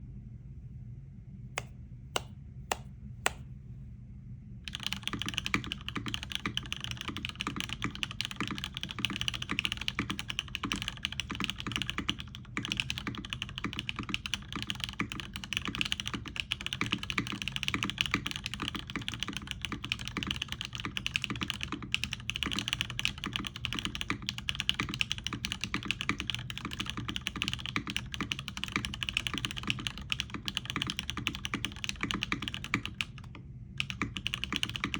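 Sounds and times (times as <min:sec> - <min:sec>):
mechanical keyboard typing: 0:04.7 - 0:34.9.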